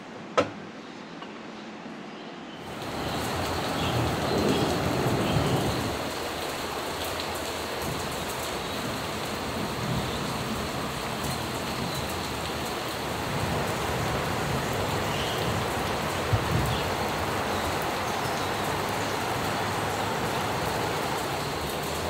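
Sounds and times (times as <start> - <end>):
steady rain falling: 2.6 - 22.0.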